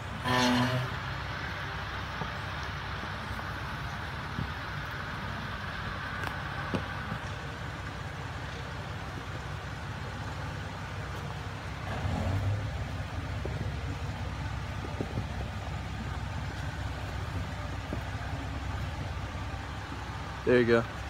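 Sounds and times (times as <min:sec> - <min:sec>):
car engine rumbling at low speed: 0:00.0 - 0:21.0.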